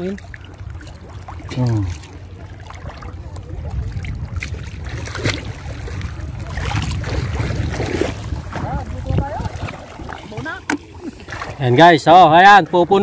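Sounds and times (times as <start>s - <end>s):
steady low rumble: 0.0s - 11.7s
seawater sloshing and lapping: 0.0s - 13.0s
small water splashes: 0.0s - 13.0s.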